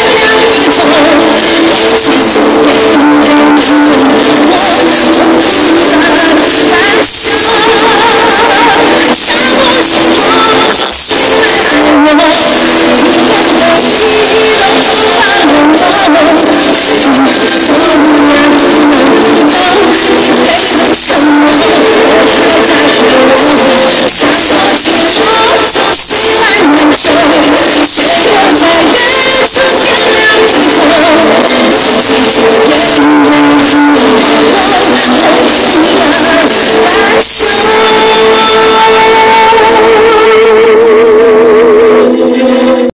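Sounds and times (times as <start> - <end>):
live pop music over loudspeakers: 0.0 - 42.9.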